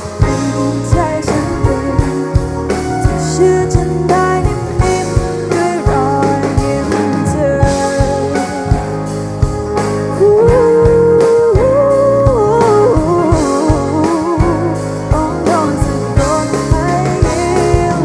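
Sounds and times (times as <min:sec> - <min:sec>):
song with guitar and drums: 0:00.0 - 0:18.0.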